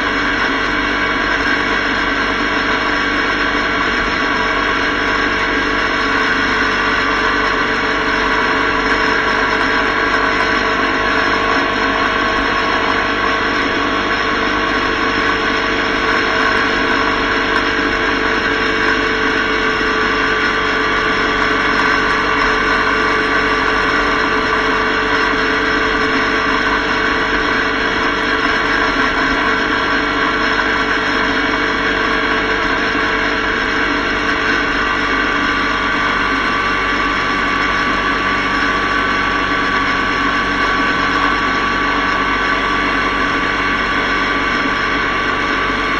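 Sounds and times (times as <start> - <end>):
motorcycle engine drone: 0.0 - 45.9
wind and road noise: 0.0 - 45.9.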